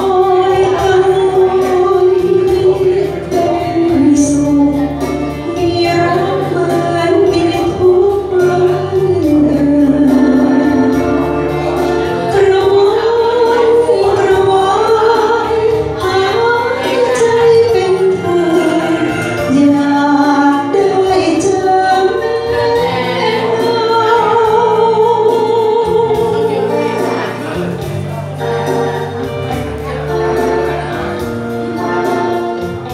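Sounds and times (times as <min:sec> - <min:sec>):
backing music with bass line: 0:00.0 - 0:32.9
woman singing into microphone: 0:00.0 - 0:32.9.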